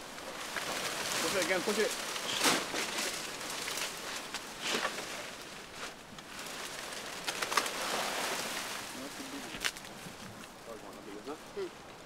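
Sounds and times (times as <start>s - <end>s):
rustling in dry leaves: 0.0s - 12.0s.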